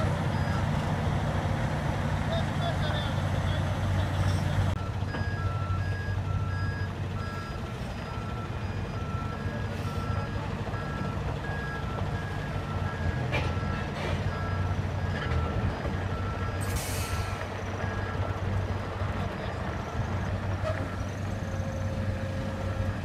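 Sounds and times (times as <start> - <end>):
truck reversing alarm beeping: 0.0 - 1.3, 2.2 - 23.0
diesel engine running: 0.0 - 23.0.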